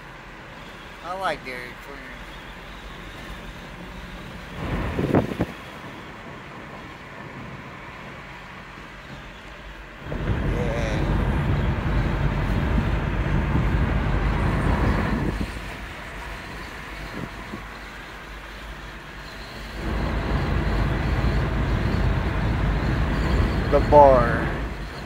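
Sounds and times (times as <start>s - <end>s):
road and engine rumble: 0.0s - 25.0s.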